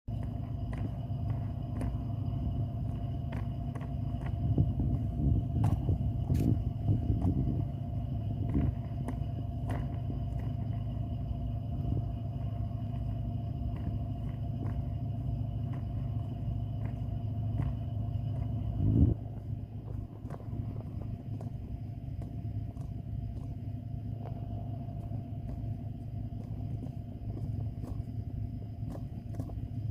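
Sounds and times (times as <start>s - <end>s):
suitcase wheels rolling: 0.1s - 29.9s.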